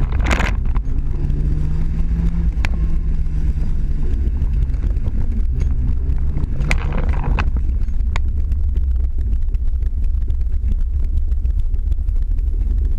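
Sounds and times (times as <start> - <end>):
car engine running at low revs: 0.0 - 12.9.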